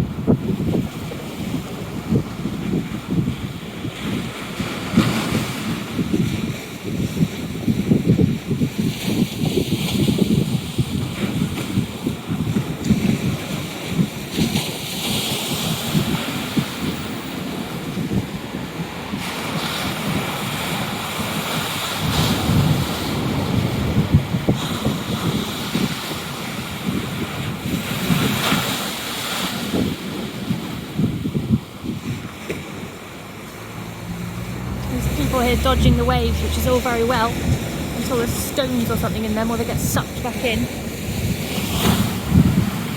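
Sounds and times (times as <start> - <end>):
sea waves breaking: 0.0 - 42.9
wind buffeting microphone: 0.0 - 42.9.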